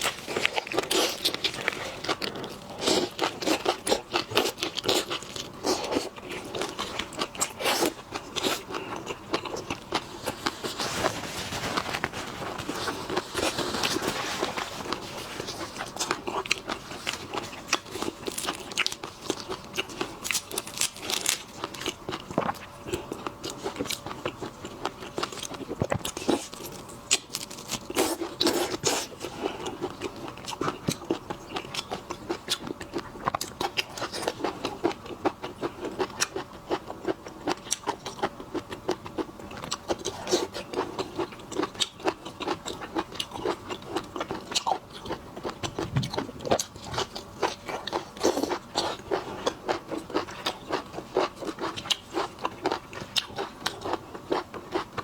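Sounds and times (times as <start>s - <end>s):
crunching and chewing seafood: 0.0s - 55.0s.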